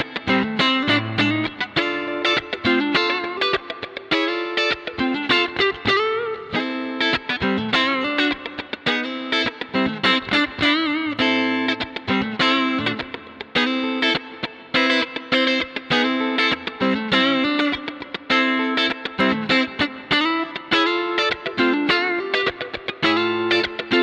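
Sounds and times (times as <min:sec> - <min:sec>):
electric guitar single notes: 0:00.0 - 0:24.0.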